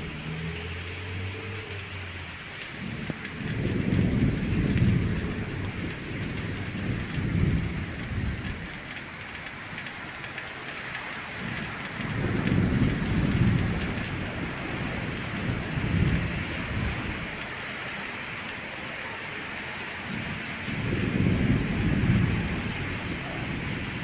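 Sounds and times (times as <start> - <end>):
rain hissing: 0.0 - 24.0
thunder rumbling: 0.0 - 24.0.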